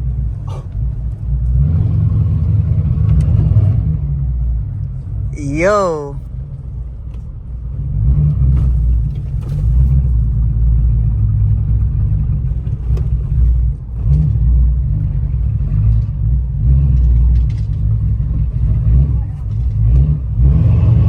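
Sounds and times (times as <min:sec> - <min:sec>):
car engine rumbling while driving: 0:00.0 - 0:21.0.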